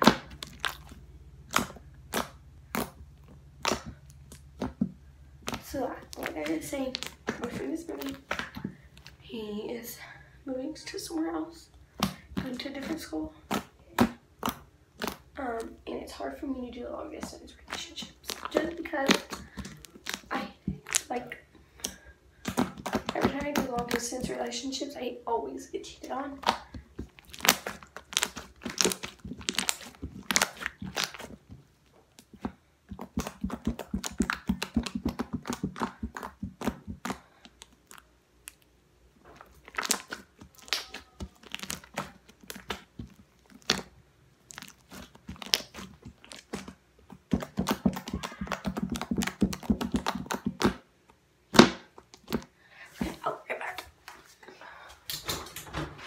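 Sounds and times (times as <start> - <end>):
slime squelching and popping: 0.0 - 9.2, 11.7 - 24.8, 26.1 - 53.2.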